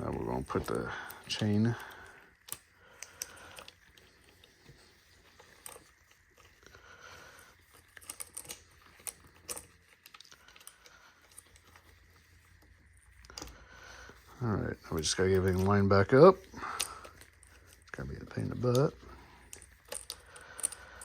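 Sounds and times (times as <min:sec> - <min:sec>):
saw chain clicking and rattling: 0:00.0 - 0:06.6, 0:07.3 - 0:11.9, 0:14.4 - 0:21.0.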